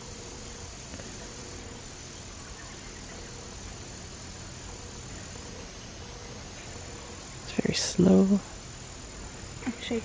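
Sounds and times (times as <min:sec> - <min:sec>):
steady hiss and low rumble: 0:00.0 - 0:10.0
thin high-pitched whine: 0:00.0 - 0:10.0.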